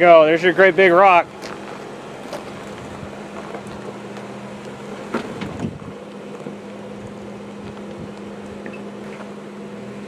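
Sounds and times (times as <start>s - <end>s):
tire crunching on rock: 0.0s - 9.4s
off-road vehicle engine at low revs: 0.0s - 10.0s.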